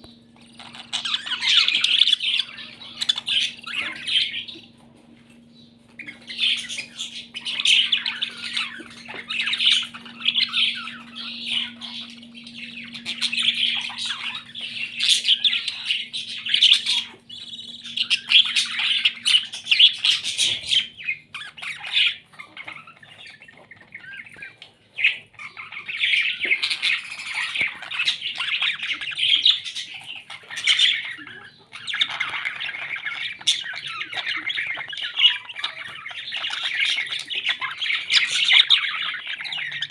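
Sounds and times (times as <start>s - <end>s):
faint steady hum: 0.0s - 39.9s
parrots squawking and chattering: 0.0s - 39.9s.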